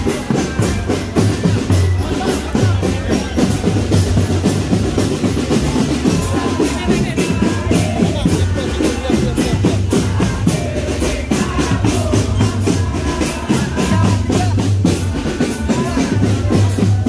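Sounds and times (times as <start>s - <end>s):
marching drum band: 0.0s - 17.0s
sharp drum strokes: 0.0s - 17.0s.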